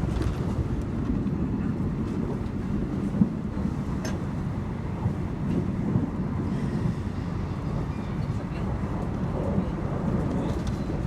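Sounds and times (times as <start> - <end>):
train coach rumble: 0.0 - 11.0.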